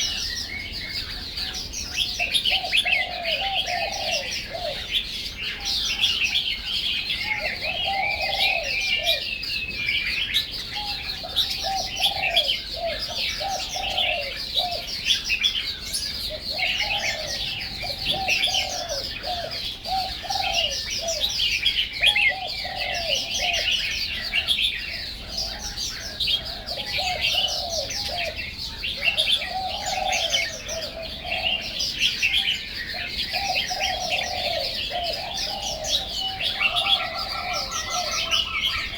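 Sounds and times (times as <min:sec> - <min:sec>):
birds chirping: 0:00.0 - 0:38.9
birds cooing: 0:00.0 - 0:38.9.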